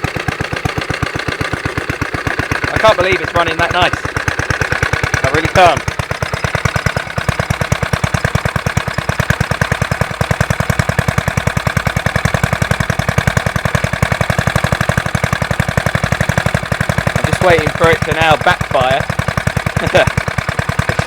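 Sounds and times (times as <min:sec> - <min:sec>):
engine running with rapid beat: 0:00.0 - 0:21.0.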